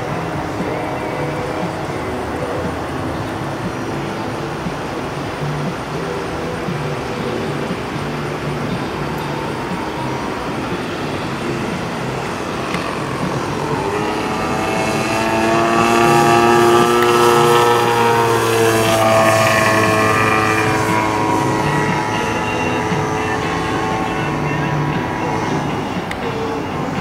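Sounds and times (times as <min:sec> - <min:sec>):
model plane engine drone passing: 0:00.0 - 0:27.0.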